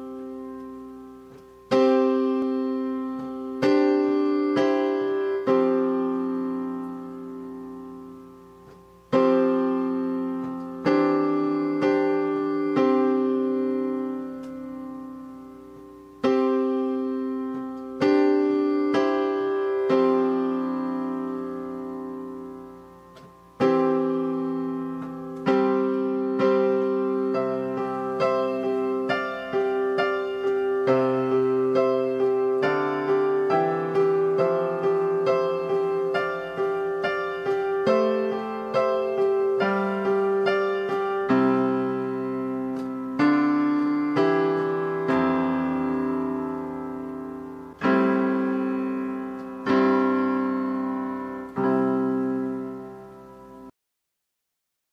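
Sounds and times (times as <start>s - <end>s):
solo piano music: 0.0s - 53.8s.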